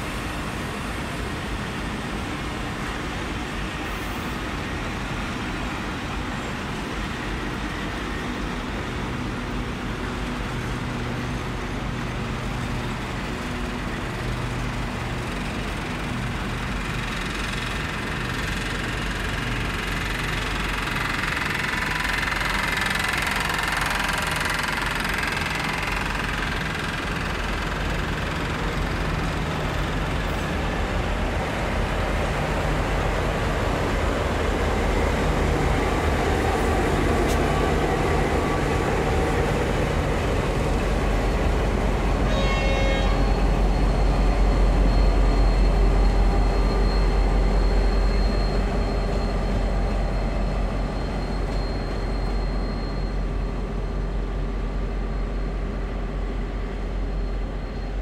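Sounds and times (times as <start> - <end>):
diesel locomotive engines throbbing: 0.0 - 58.0.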